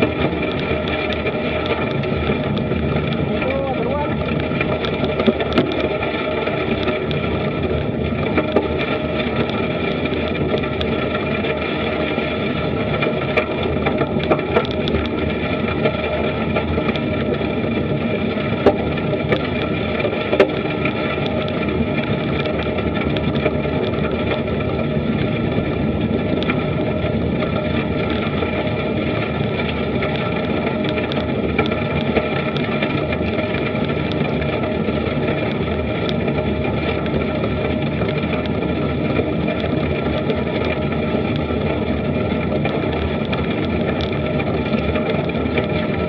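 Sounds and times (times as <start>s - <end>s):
bicycle tyres rolling on gravel: 0.0s - 46.0s.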